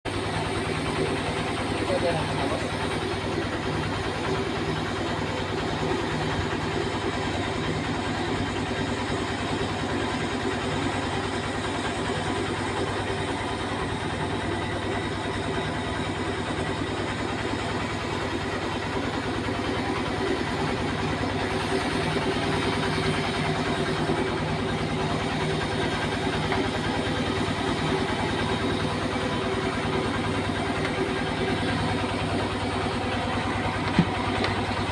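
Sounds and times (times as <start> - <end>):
engine droning steadily: 0.0 - 34.9.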